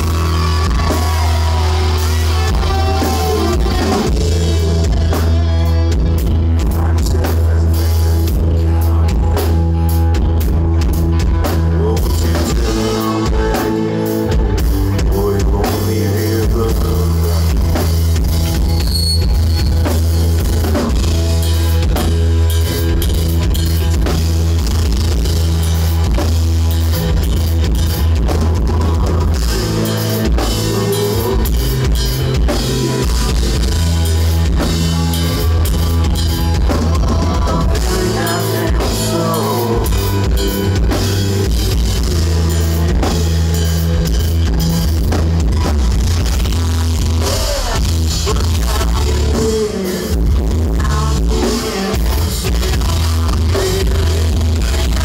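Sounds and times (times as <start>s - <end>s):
drum kit: 0.0s - 55.0s
electric bass: 0.0s - 55.0s
electric guitar: 0.0s - 55.0s.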